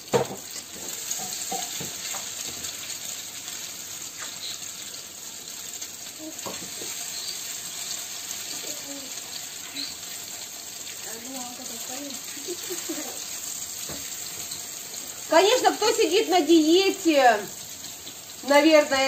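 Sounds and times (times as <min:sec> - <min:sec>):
bread sizzling in a frying pan: 0:00.0 - 0:19.0.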